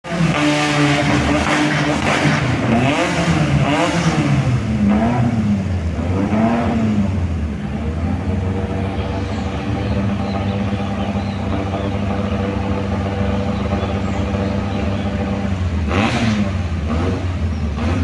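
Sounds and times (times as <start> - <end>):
buggy engine revving and idling: 0.0 - 18.0.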